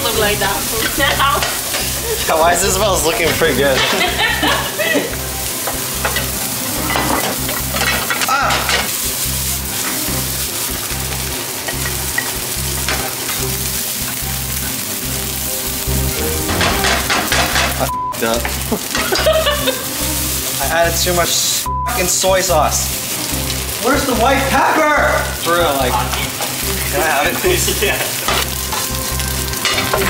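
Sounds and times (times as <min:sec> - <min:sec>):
rice sizzling in skillets: 0:00.0 - 0:30.0.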